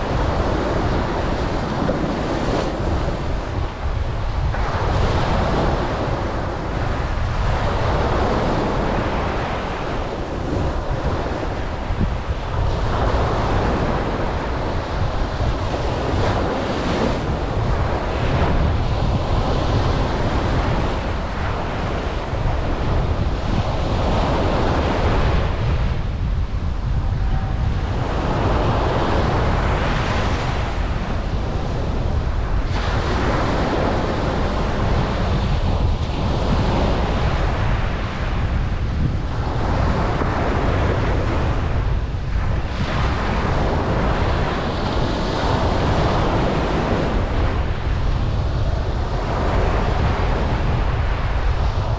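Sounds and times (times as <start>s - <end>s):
ocean waves breaking: 0.0s - 51.9s
wind on microphone: 0.0s - 51.9s.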